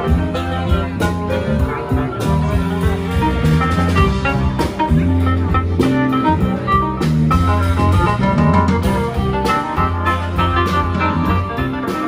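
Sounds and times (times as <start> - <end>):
drum kit beat: 0.0 - 12.0
electric guitar: 0.0 - 12.0
saxophones: 0.0 - 12.0.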